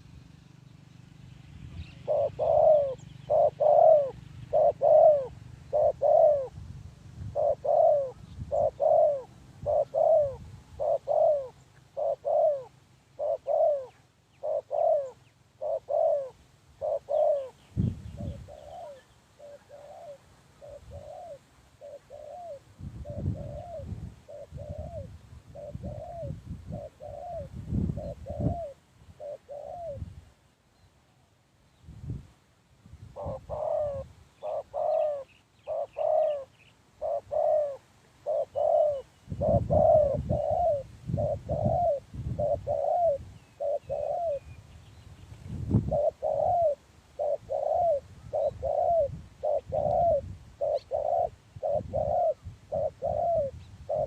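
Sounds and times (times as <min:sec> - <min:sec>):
dove cooing: 0:01.6 - 0:06.6, 0:07.2 - 0:30.1, 0:33.1 - 0:44.6, 0:45.7 - 0:54.0.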